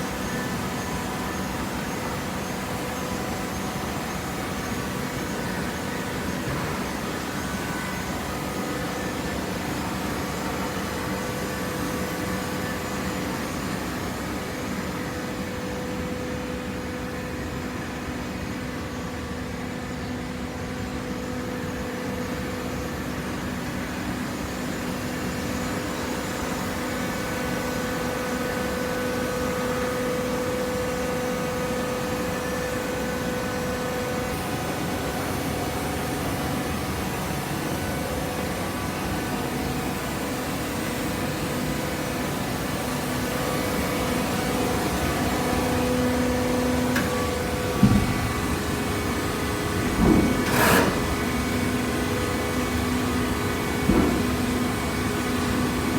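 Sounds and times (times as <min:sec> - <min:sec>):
baling press machine hum: 0:00.0 - 0:55.9.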